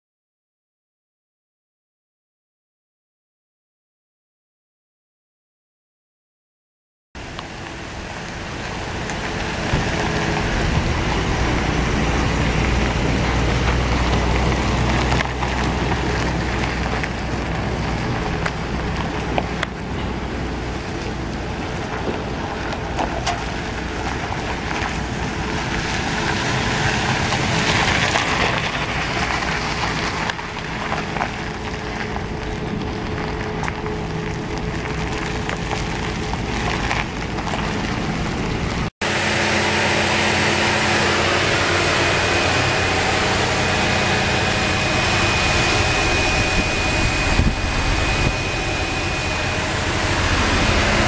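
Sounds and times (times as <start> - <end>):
truck engine idling: 7.2 - 51.0.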